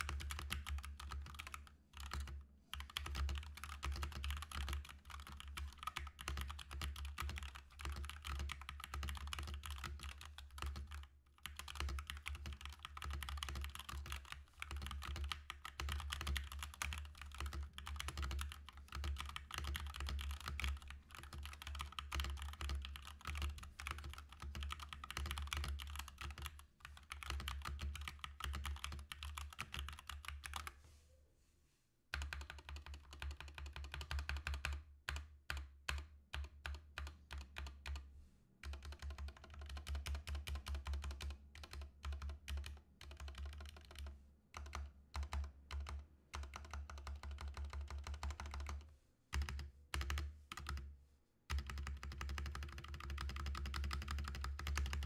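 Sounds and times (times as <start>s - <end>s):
fast typing on mechanical keyboard: 0.0s - 30.7s, 32.2s - 38.0s, 38.6s - 50.9s, 51.5s - 55.0s.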